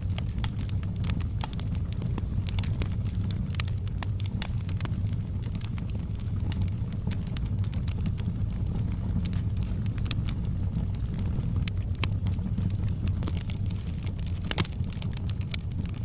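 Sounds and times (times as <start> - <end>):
burning wood crackling and popping: 0.0 - 16.0
low rumble of flames: 0.0 - 16.0.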